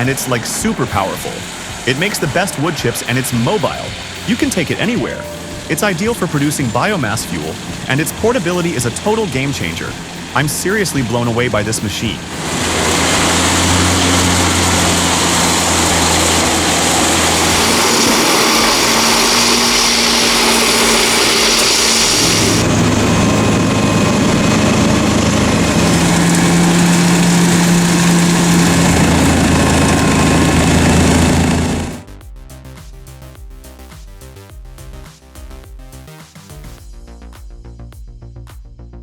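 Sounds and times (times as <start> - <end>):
wood chipper chipping: 0.0 - 32.1
diesel engine humming: 0.0 - 32.3.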